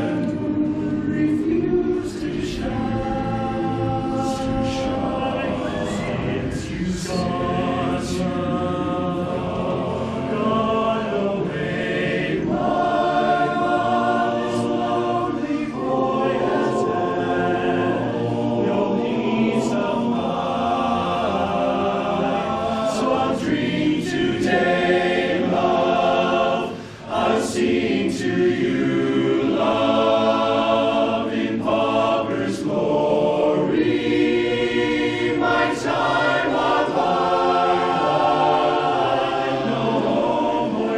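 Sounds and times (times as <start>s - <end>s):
a cappella chorus singing harmony: 0.0s - 40.9s.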